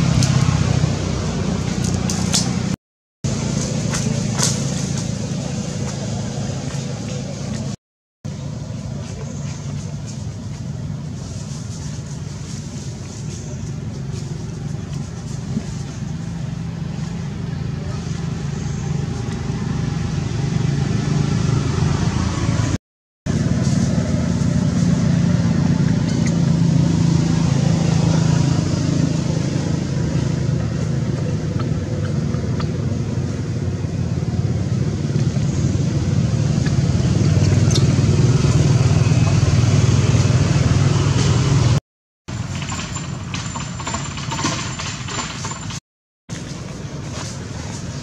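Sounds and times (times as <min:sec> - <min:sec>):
low mechanical rumble: 0:00.0 - 0:41.8.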